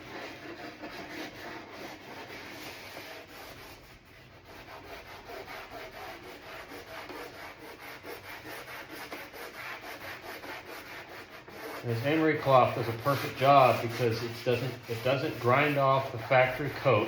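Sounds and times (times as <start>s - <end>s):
emery cloth rubbing plastic: 0.0s - 17.0s.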